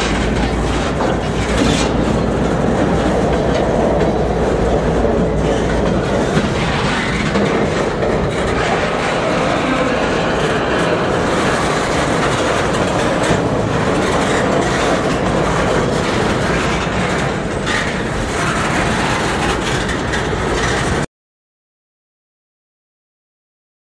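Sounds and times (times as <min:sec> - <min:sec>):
freight train rumbling past: 0:00.0 - 0:21.1
wind noise on microphone: 0:00.0 - 0:21.1.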